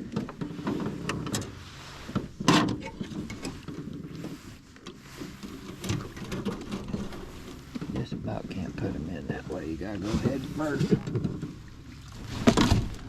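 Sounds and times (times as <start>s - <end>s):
knocks and rattles in boat: 0.0s - 13.0s.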